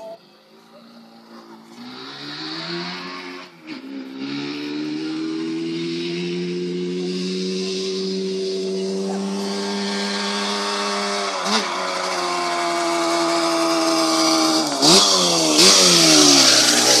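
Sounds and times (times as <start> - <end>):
quad engine revving: 0.0 - 17.0.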